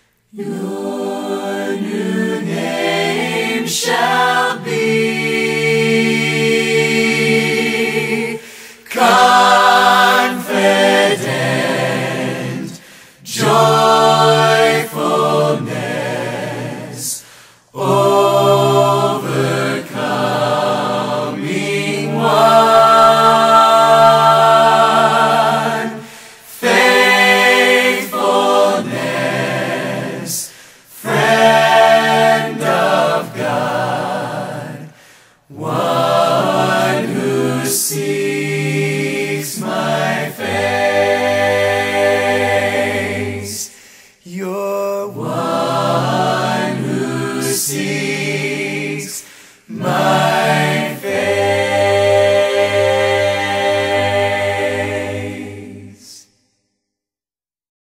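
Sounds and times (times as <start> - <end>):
choir singing a slow worship song: 0.0 - 56.4.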